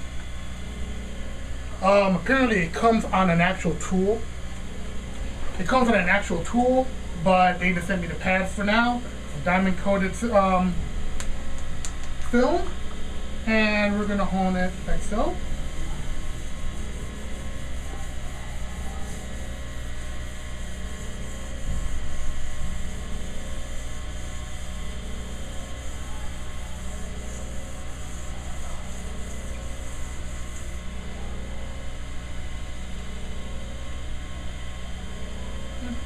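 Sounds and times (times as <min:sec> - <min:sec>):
sharpening machine humming: 0:00.0 - 0:36.0.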